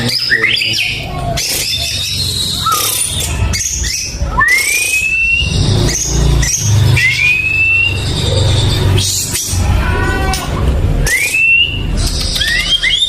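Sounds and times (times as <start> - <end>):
bird whistling song: 0.0 - 9.5, 11.0 - 13.0.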